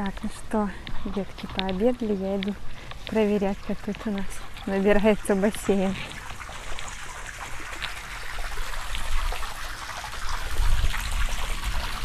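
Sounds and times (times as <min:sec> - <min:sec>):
hose water splashing into pool: 0:00.2 - 0:12.0.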